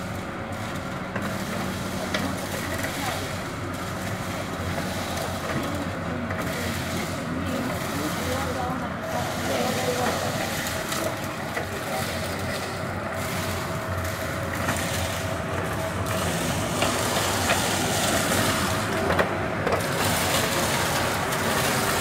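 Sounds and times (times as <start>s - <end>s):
street vacuum running: 0.0s - 22.0s.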